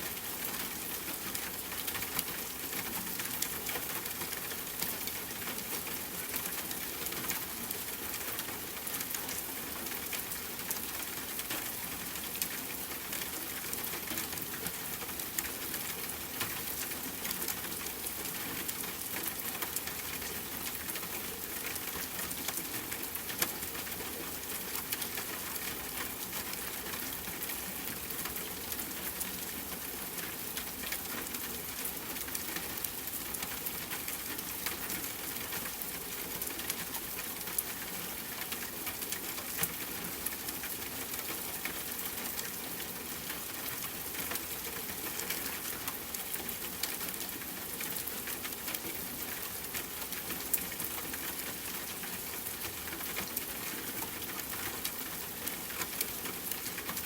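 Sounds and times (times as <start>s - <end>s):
rain pattering on a tent: 0.0s - 57.0s.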